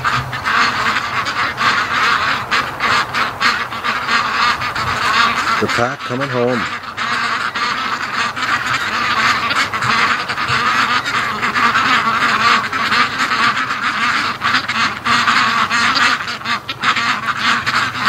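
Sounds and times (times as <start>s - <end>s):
ducks quacking: 0.0s - 18.0s.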